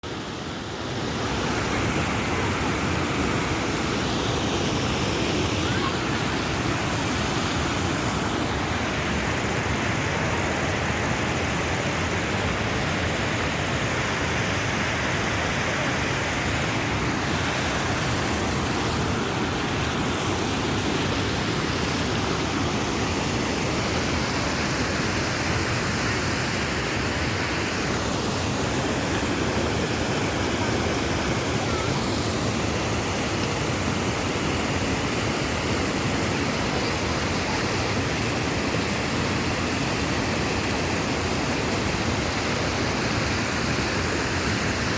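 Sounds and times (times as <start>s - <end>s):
fast-flowing water rushing: 0.0s - 44.9s.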